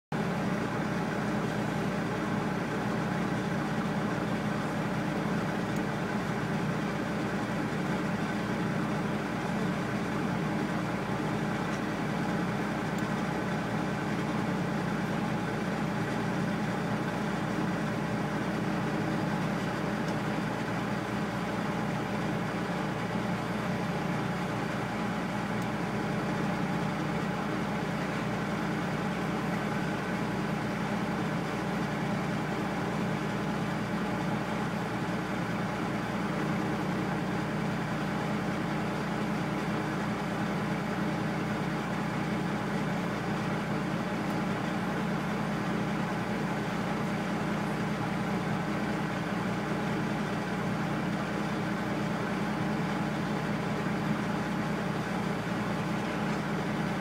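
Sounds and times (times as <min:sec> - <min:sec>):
car engine idling: 0:00.1 - 0:57.0.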